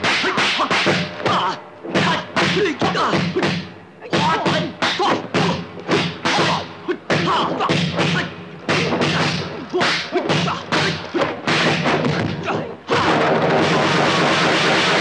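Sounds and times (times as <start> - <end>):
fighters grunting and shouting: 0.0 - 11.4, 12.0 - 13.2.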